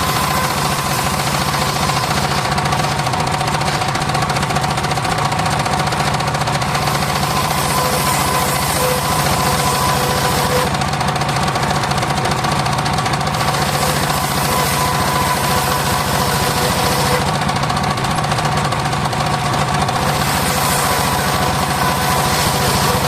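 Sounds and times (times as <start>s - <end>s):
engine-driven circular saw running: 0.0s - 23.0s.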